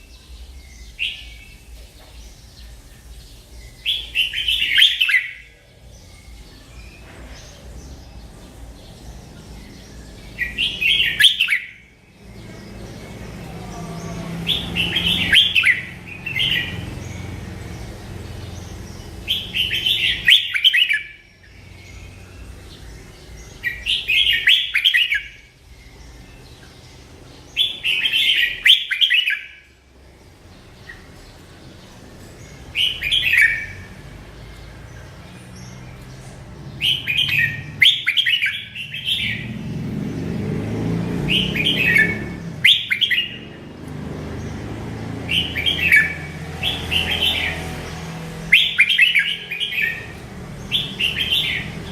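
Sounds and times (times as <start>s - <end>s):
bulbul singing warbled phrases: 0.0s - 51.9s.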